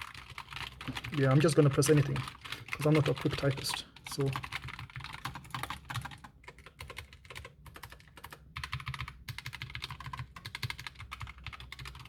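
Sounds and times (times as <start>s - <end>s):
mechanical keyboard clicking: 0.0s - 12.0s.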